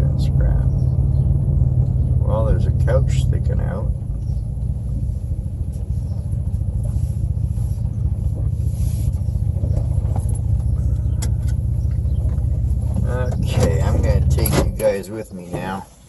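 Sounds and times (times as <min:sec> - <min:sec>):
car engine rumble from inside: 0:00.0 - 0:16.0.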